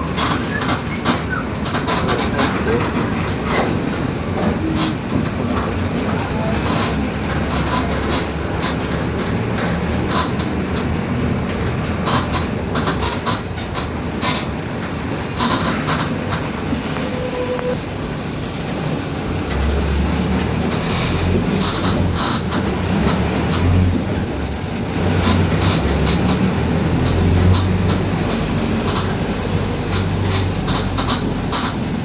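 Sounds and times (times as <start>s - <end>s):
bus engine rumble: 0.0s - 32.0s
bus interior rattling: 0.0s - 32.0s.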